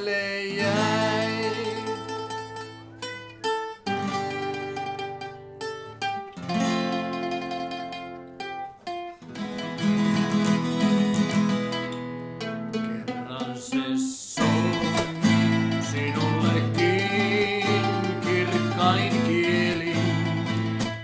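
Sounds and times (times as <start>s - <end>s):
acoustic guitar strumming chords: 0.0s - 21.0s
mandolin picking single notes: 0.0s - 21.0s.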